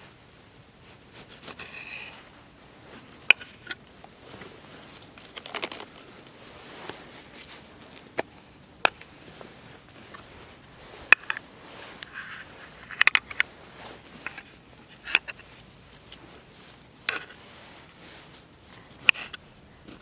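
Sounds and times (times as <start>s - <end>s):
campfire crackling and popping: 0.1s - 20.0s.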